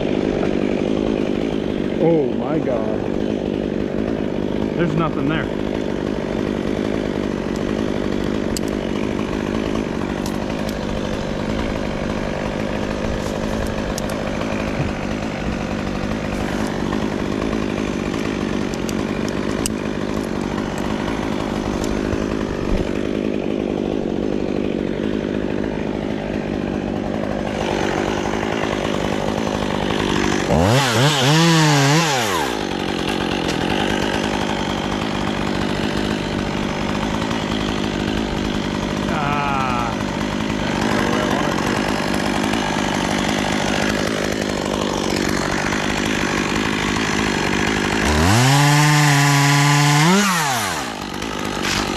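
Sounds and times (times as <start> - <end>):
chainsaw idling and revving: 0.0 - 51.9.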